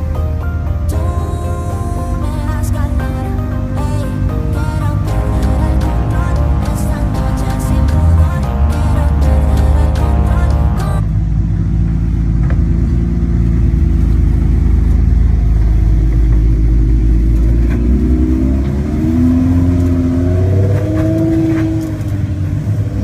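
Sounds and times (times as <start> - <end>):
engine rumbling and revving: 0.0 - 23.0.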